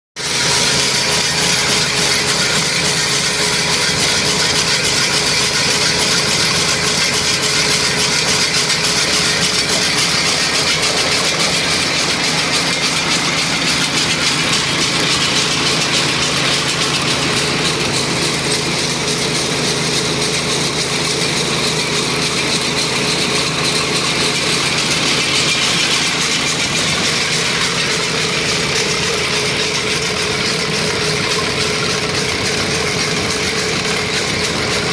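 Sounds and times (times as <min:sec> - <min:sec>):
trencher running under load: 0:00.2 - 0:34.9.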